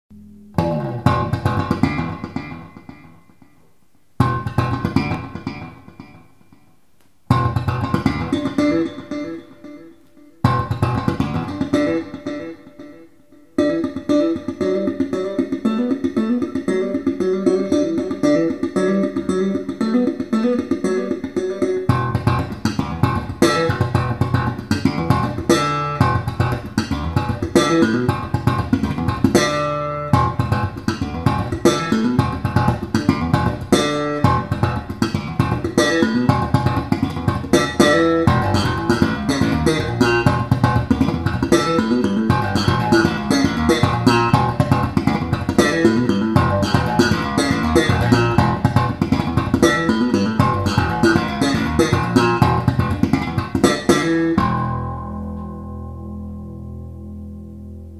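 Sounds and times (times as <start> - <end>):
bass guitar: 0.1 - 6.6, 7.2 - 57.9
jazz guitar: 0.1 - 57.9.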